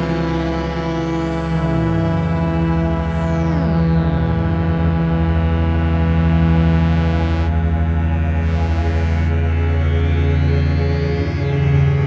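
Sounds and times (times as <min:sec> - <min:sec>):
drone synthesizer music: 0:00.0 - 0:12.0
fast-pulsing bass: 0:00.0 - 0:12.0.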